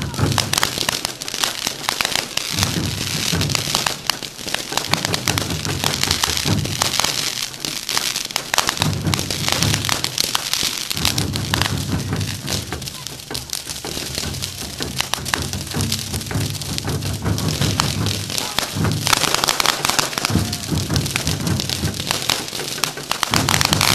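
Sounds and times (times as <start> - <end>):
fireworks popping and cracking: 0.0 - 23.9
spark fountains hissing: 0.0 - 23.9.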